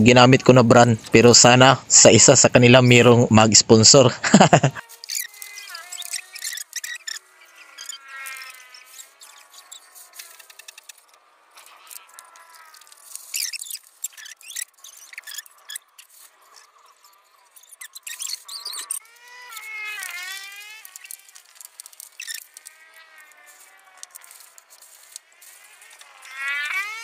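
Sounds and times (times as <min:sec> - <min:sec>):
trowel squeaking on wet concrete: 0:04.8 - 0:27.0.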